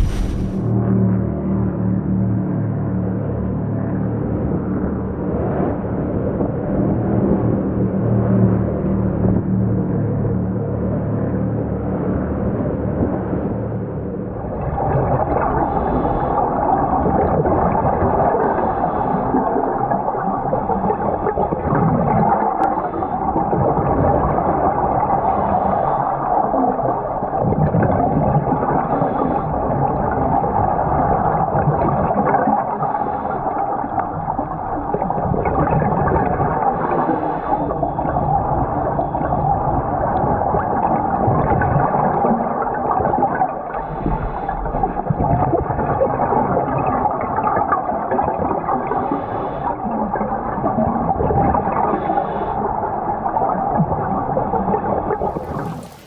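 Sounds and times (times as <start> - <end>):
churning gurgling water: 0.0 - 0.6, 3.8 - 56.0.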